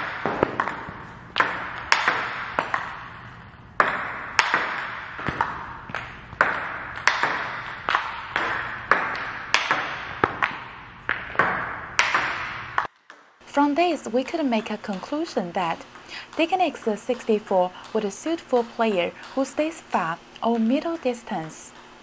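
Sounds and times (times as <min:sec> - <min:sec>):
table tennis ball clicks: 0:00.0 - 0:13.3, 0:14.2 - 0:21.0.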